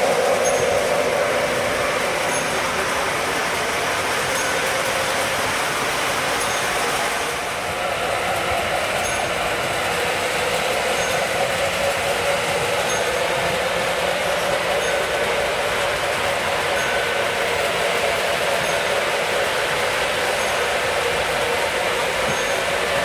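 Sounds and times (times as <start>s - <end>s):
locomotive motors whirring: 0.0s - 23.0s
model train wheels on track: 0.0s - 23.0s.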